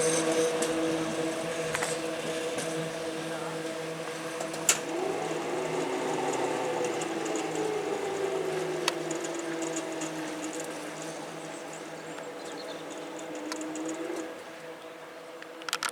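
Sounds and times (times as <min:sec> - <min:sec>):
steady hum: 0:00.0 - 0:15.3
electric train motors whining: 0:00.0 - 0:15.9.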